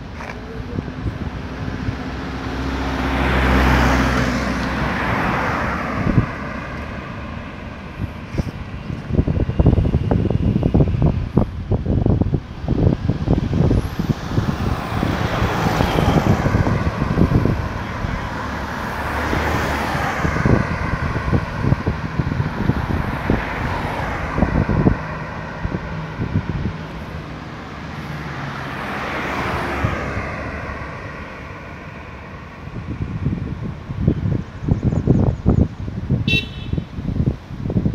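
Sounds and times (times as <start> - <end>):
cars passing: 0.0 - 37.9
wind rumbling on microphone: 0.0 - 37.9.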